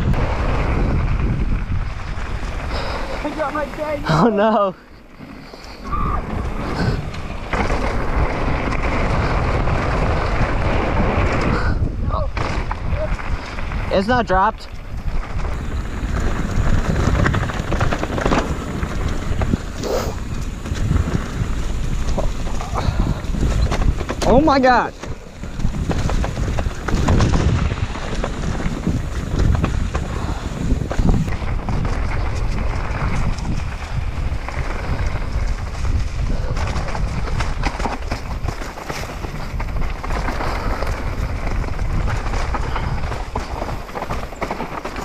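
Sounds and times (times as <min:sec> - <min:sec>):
bike tyres rolling on wooden planks: 0:00.0 - 0:45.0
wind noise on microphone: 0:00.0 - 0:45.0.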